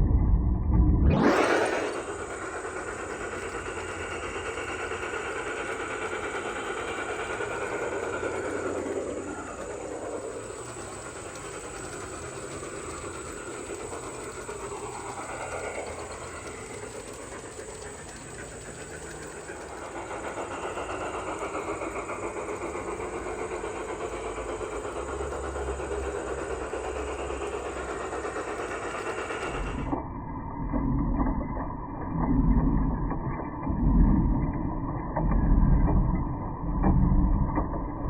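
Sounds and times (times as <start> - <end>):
faint high whine: 0.0 - 30.8
model train rolling rumble: 1.1 - 38.0.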